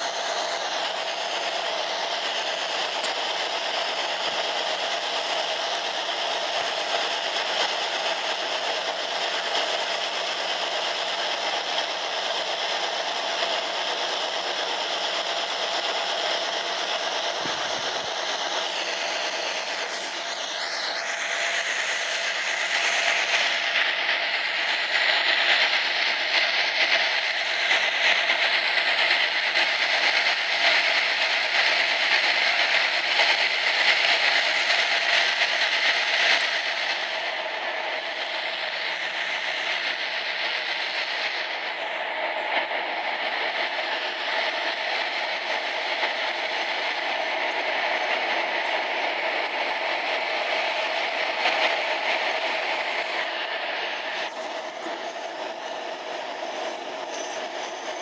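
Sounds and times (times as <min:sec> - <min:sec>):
train wheel squeal: 0:00.0 - 0:58.0
train wheels on rail in tunnel: 0:00.0 - 0:58.0.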